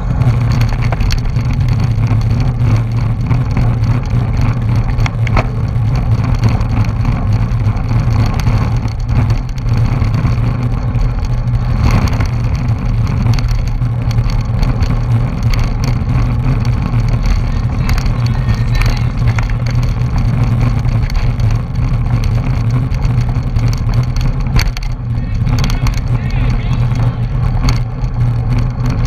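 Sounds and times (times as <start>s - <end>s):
bicycle tyre and road rumble: 0.0s - 29.0s
wind buffeting microphone: 0.0s - 29.0s.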